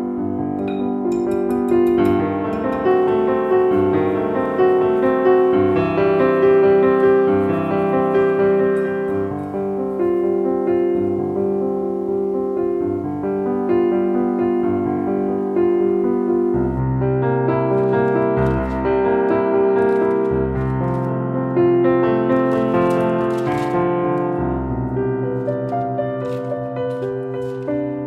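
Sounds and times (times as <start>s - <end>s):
gentle piano melody: 0.0s - 28.0s.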